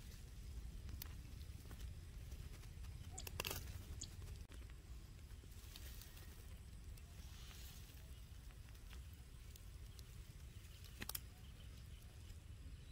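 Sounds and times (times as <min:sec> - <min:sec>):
small clicks and rustles: 0:00.0 - 0:11.4.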